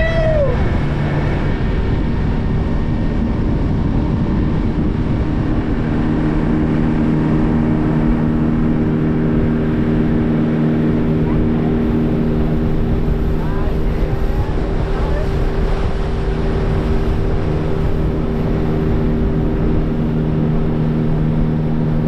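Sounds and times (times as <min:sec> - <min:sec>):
outboard motor running: 0:00.0 - 0:22.0
wind and water rushing: 0:00.0 - 0:22.0.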